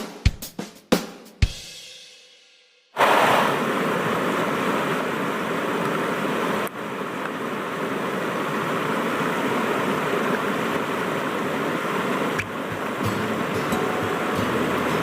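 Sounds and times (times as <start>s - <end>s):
waterfall roaring: 3.0s - 15.0s.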